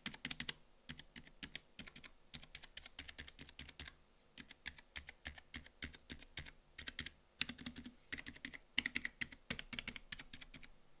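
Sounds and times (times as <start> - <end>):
mechanical keyboard typing: 0.0 - 10.7.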